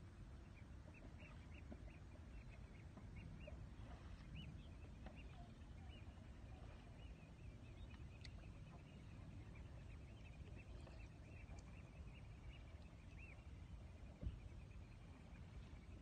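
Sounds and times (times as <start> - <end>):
birds calling: 0.2 - 16.0.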